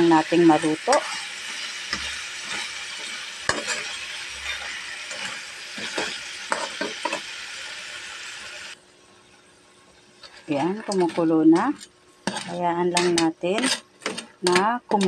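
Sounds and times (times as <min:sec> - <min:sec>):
crab sizzling in a pan: 0:00.0 - 0:15.0.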